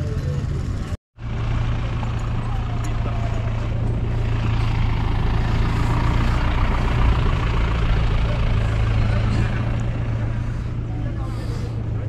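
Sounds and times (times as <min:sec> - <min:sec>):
engine idling: 0:00.4 - 0:12.0.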